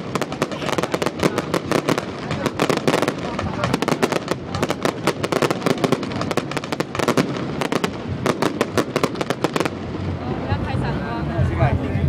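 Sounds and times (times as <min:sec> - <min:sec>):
fireworks crackling bangs: 0:00.0 - 0:11.6.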